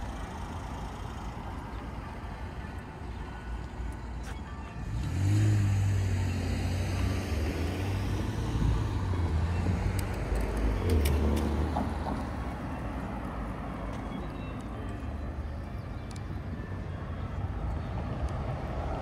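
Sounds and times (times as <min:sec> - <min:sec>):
street noise: 0:00.0 - 0:19.0
vehicle engine humming: 0:00.0 - 0:19.0.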